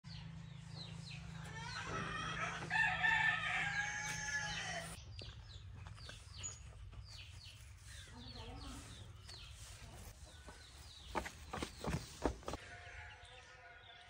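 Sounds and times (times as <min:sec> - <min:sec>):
small birds chirping: 0:00.1 - 0:02.6, 0:03.4 - 0:12.6.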